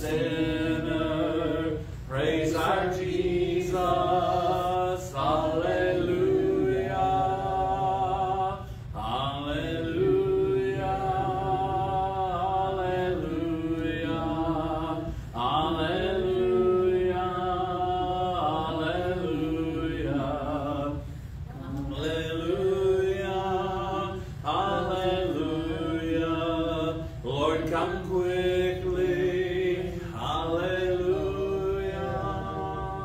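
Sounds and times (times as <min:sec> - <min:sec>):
congregation singing a hymn: 0:00.0 - 0:33.0.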